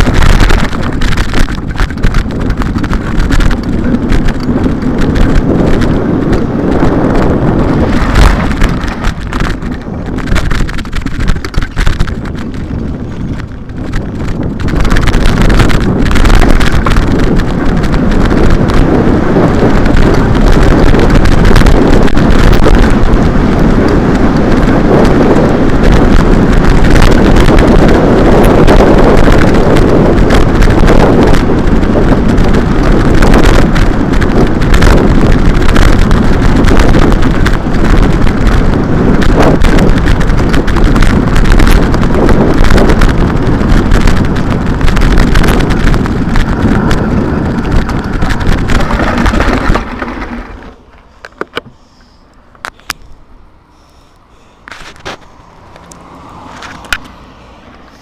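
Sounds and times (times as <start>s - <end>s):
rattling and knocking on rough road: 0.0s - 53.1s, 54.6s - 58.0s
wind rumble on microphone: 0.0s - 58.0s.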